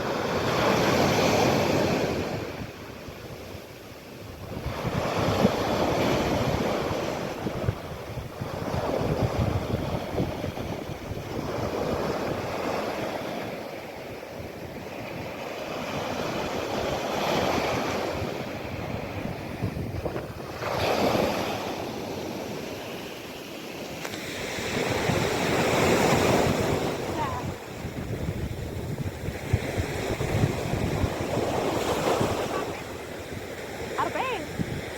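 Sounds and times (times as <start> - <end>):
sea waves breaking on shore: 0.0 - 34.9.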